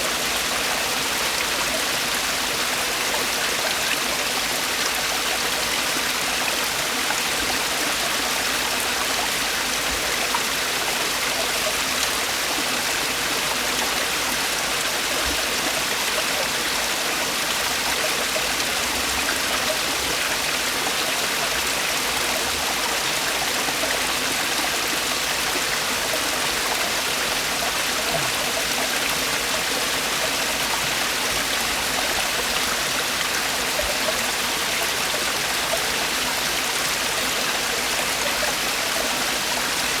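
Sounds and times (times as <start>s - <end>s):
stream water over rocks: 0.0s - 40.0s.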